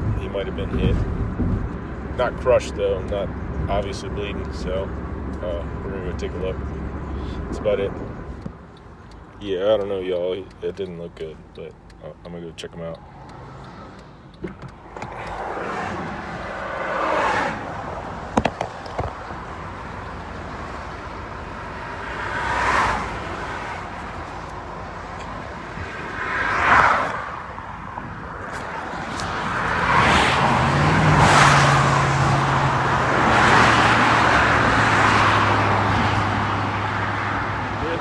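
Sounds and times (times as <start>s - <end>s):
heavy vehicle engine hum: 0.0s - 38.0s
vehicles sweeping past: 0.0s - 38.0s.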